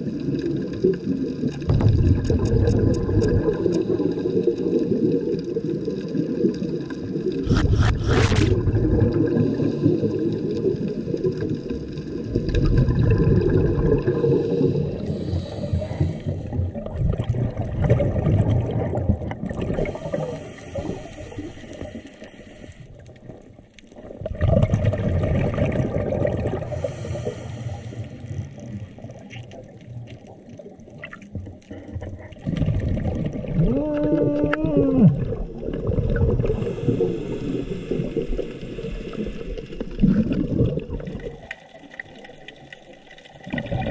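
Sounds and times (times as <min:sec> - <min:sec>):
underwater rush of moving water: 0:00.0 - 0:43.9.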